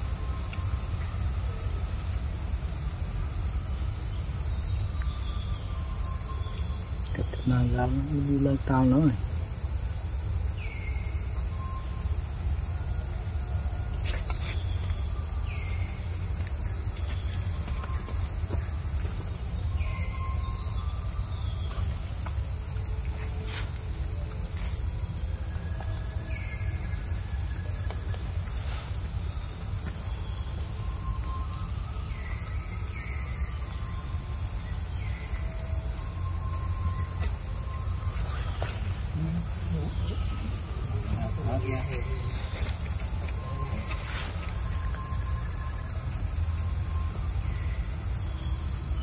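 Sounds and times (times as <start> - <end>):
high-pitched insect drone: 0.0 - 49.0.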